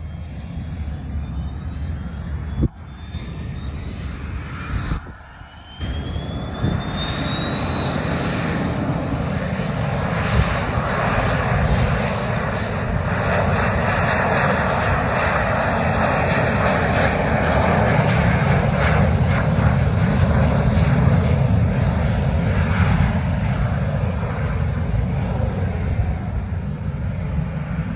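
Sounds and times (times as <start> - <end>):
jet engines spooling up: 0.0 - 27.9
loud steady jet noise: 0.0 - 27.9.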